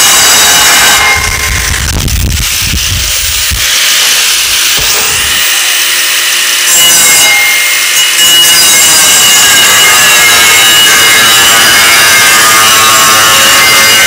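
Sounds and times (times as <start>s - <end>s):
angle grinder cutting metal: 0.0s - 14.0s.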